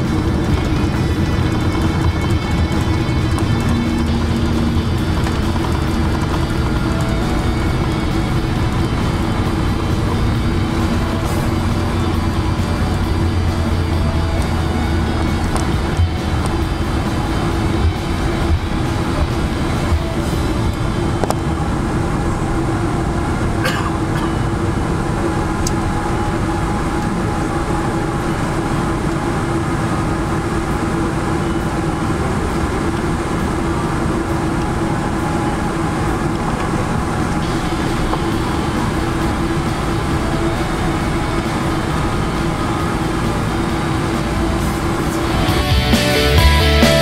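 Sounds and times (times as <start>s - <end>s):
airplane cabin rumble: 0.0s - 47.0s
constant cabin hum: 0.0s - 47.0s.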